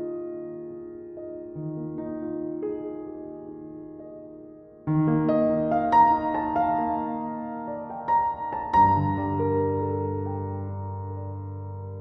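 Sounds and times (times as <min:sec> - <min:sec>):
piano notes ringing: 0:00.0 - 0:12.0.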